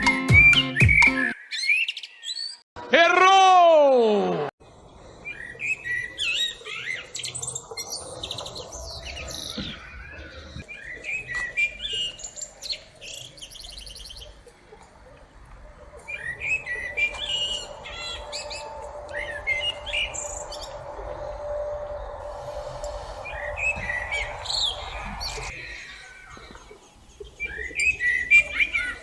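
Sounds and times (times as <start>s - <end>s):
songbird singing: 4.6s - 29.0s.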